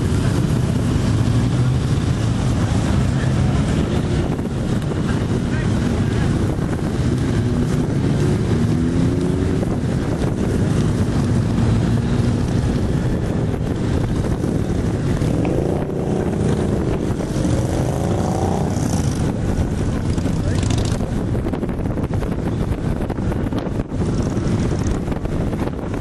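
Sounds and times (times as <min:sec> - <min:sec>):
distant motorcycles droning: 0:00.0 - 0:26.0
wind buffeting microphone: 0:00.0 - 0:26.0.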